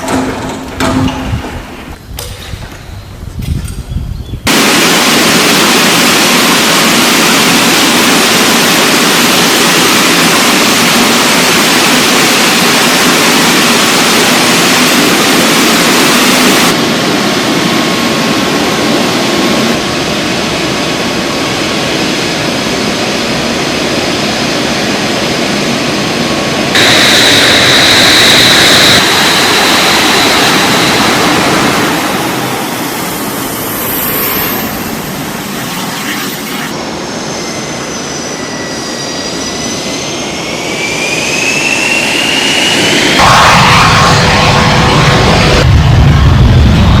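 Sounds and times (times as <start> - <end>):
jet engines running: 0.0 - 3.5, 4.4 - 47.0
high whine: 4.5 - 24.7, 25.6 - 47.0.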